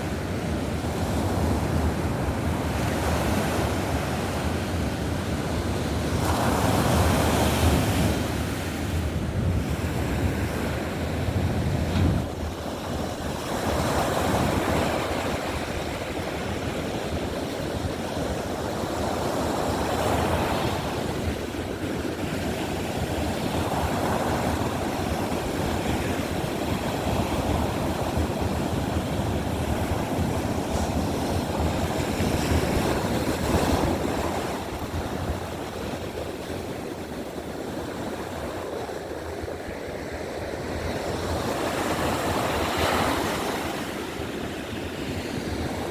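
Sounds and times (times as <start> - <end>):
surf breaking and washing ashore: 0.0 - 45.9
wind rumbling on microphone: 0.0 - 45.9.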